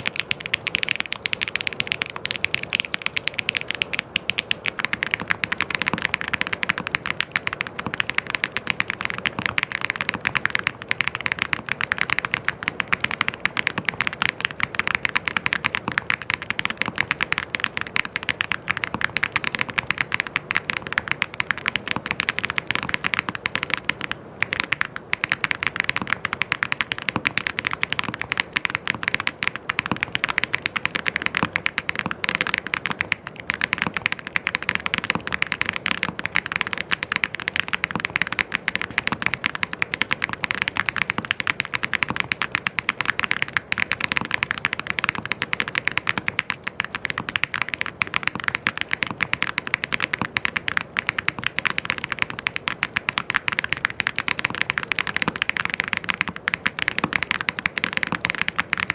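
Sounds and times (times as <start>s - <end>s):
typing on mechanical keyboard: 0.0s - 58.9s.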